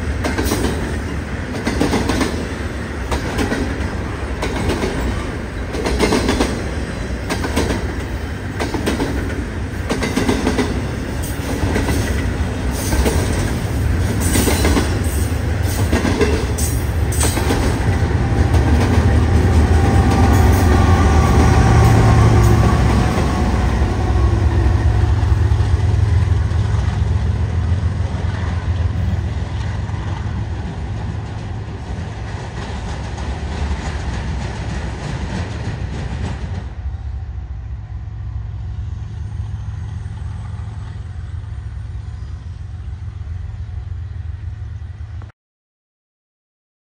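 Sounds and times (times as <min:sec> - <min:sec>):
diesel locomotives rumbling past: 0:00.0 - 0:45.3
rail noise: 0:00.0 - 0:45.3.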